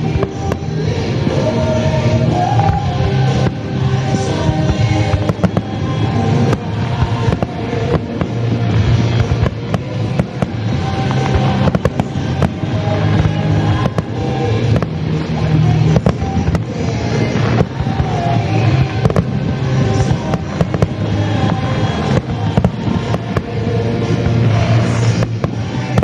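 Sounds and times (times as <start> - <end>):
fireworks bursting and crackling: 0.0 - 26.0
music playing: 0.0 - 26.0.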